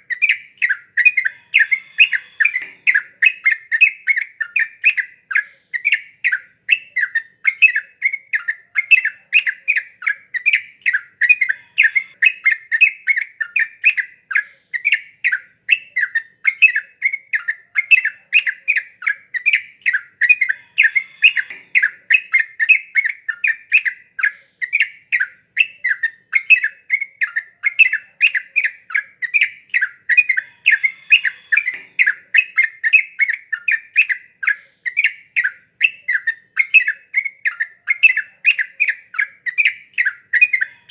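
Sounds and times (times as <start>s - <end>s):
bird singing fast notes: 0.0s - 40.9s.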